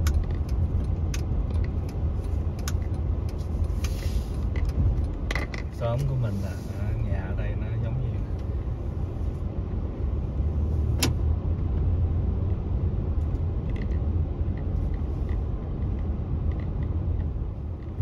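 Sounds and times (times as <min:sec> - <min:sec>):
car cabin rumble: 0:00.0 - 0:18.0.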